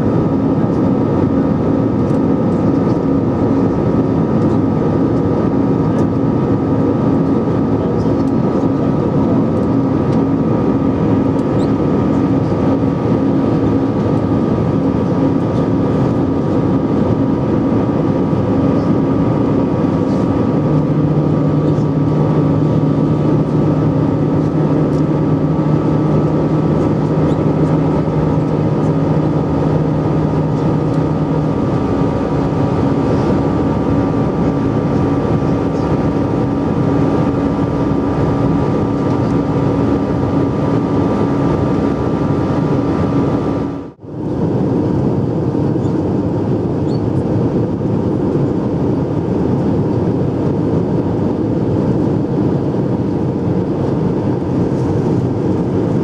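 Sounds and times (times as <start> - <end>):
jet engines and airflow roaring: 0.0 - 56.0
low hum: 0.0 - 56.0.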